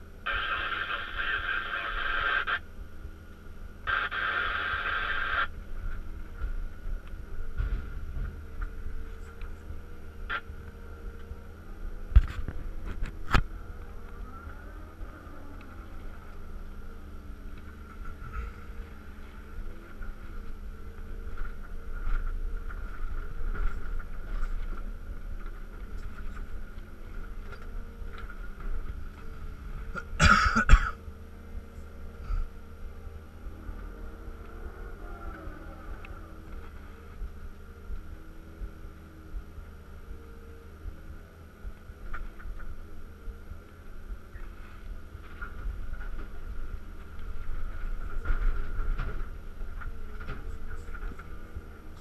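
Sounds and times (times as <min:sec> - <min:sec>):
excavator engine whining: 0:00.0 - 0:52.0.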